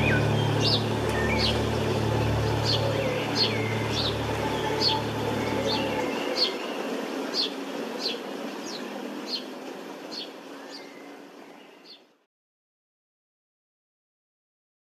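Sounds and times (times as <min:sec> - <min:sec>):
birds chirping: 0:00.0 - 0:12.2
soft outdoor hiss: 0:00.0 - 0:12.3.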